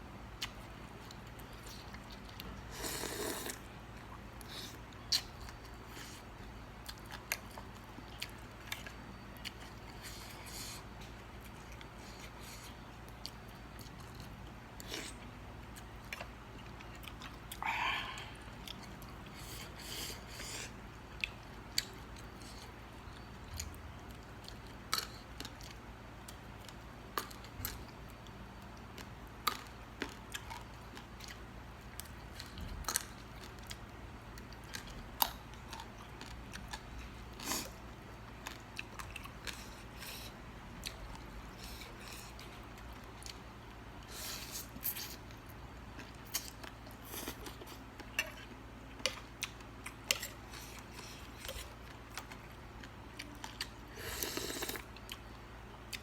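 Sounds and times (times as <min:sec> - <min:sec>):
person chewing wetly: 0:00.4 - 0:56.0.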